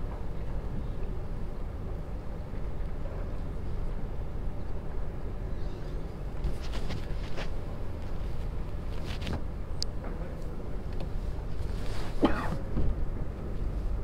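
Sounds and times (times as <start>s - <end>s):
low rumble of indoor hall: 0.0s - 14.0s.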